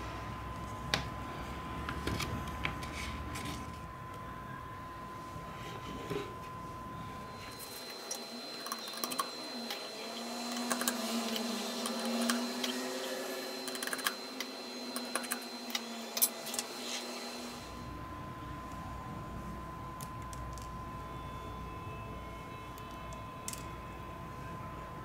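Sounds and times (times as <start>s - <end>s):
faint wavering hum: 0.0s - 25.0s.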